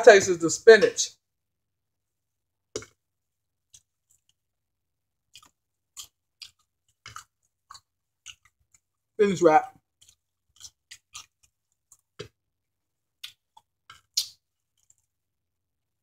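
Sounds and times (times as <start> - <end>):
person chewing food: 2.6 - 16.0.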